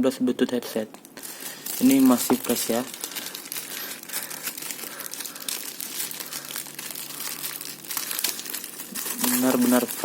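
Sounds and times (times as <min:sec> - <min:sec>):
plastic packaging crinkling: 0:00.9 - 0:10.0.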